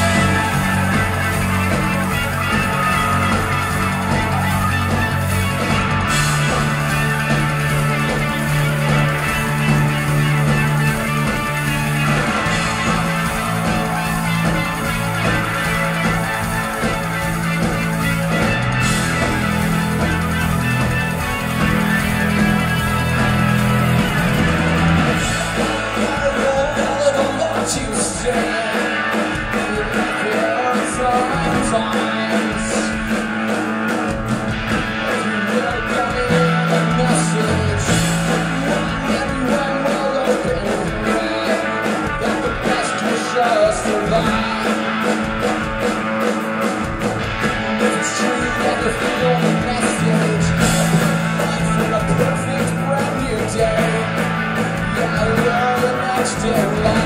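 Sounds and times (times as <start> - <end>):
rock band playing live: 0.0 - 57.0.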